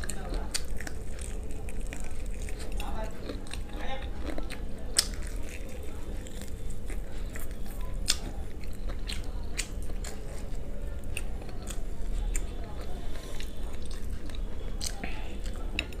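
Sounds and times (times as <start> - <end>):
chewing: 0.0 - 16.0
crispy chicken crunching: 0.0 - 16.0.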